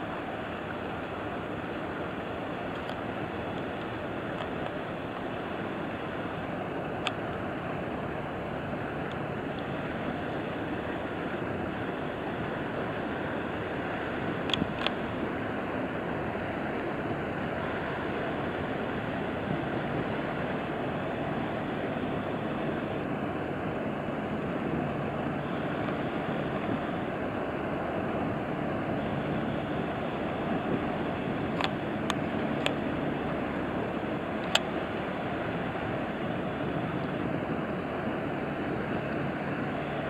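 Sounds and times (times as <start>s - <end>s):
passing barges rumbling: 0.0s - 40.0s
wind on microphone: 7.1s - 40.0s.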